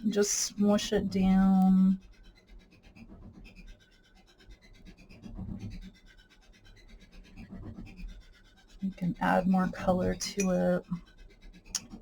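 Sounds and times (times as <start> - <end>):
paintbrush scratching on paper: 0.2 - 11.7.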